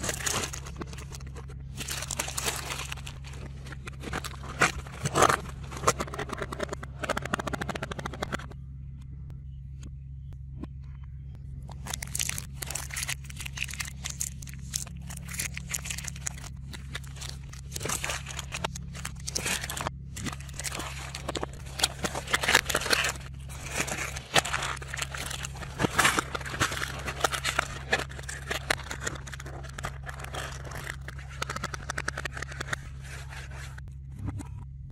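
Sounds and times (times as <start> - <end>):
plastic wrappers crinkling: 0.0 - 6.6, 11.7 - 33.8
steady low hum: 0.0 - 34.9.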